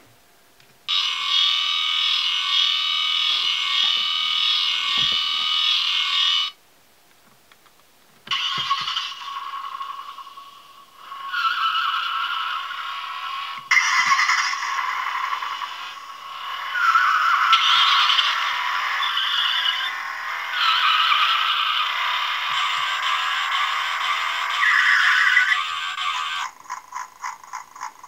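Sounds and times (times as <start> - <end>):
toy car engine sound effects: 0.9 - 6.6, 8.3 - 28.0.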